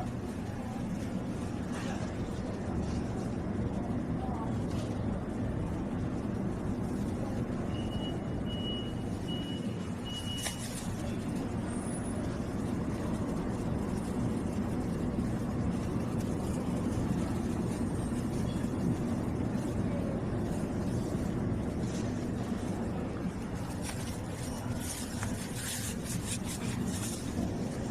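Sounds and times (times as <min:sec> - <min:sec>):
road noise: 0:00.0 - 0:27.9
vehicle engine rumble: 0:00.0 - 0:27.9.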